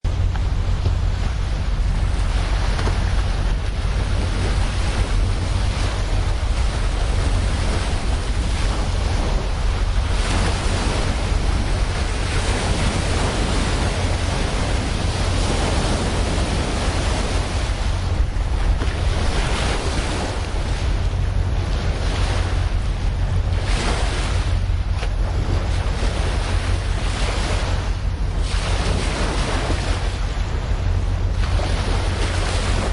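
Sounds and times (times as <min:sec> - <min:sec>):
deep rumble: 0:00.0 - 0:32.9
sea waves washing against ship: 0:00.0 - 0:32.9.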